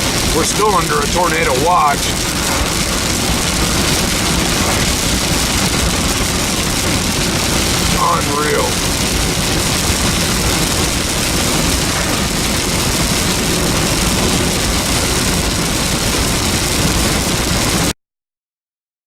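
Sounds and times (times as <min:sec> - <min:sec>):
low vehicle rumble: 0:00.0 - 0:17.9
heavy rain pouring: 0:00.0 - 0:18.0.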